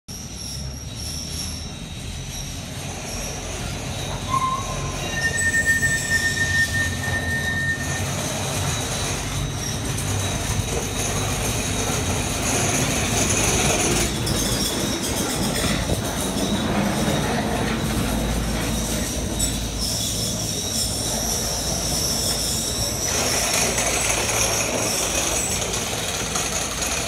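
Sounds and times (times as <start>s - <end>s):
funicular car screeching on rails: 0.1s - 27.0s.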